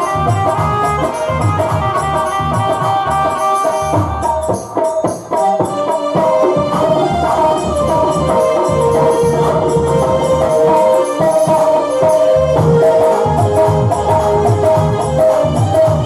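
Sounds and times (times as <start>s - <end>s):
devotional melody line: 0.0s - 16.0s
steady drum rhythm: 0.0s - 16.0s.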